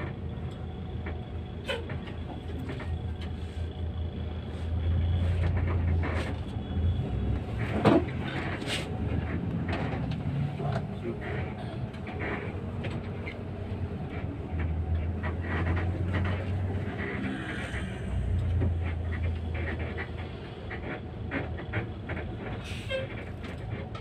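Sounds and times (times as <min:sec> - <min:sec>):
low bus engine drone: 0:00.0 - 0:24.0
rattles and clicks of bus fittings: 0:00.0 - 0:24.0.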